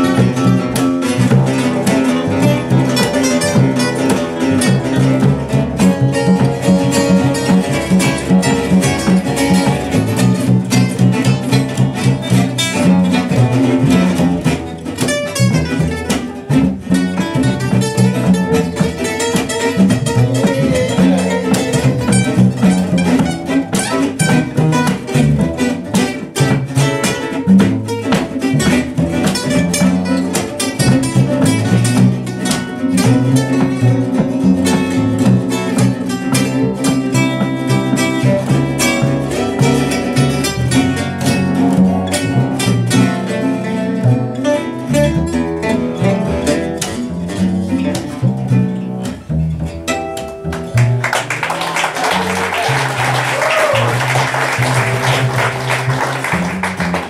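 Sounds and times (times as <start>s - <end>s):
acoustic guitars playing jazz: 0.0s - 57.0s
plucked double bass: 0.0s - 57.0s.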